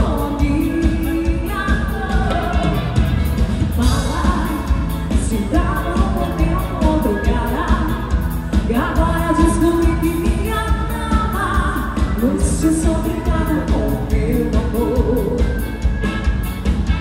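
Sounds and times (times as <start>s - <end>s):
woman singing: 0.0s - 16.0s
drums: 0.0s - 17.0s
electric guitar: 0.0s - 17.0s.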